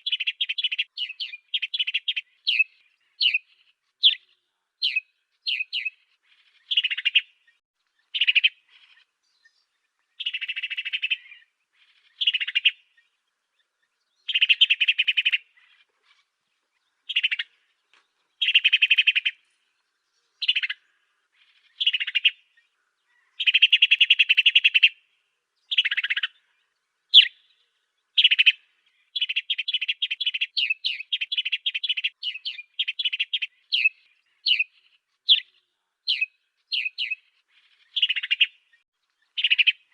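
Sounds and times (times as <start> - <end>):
bird song trills: 0.0 - 39.9.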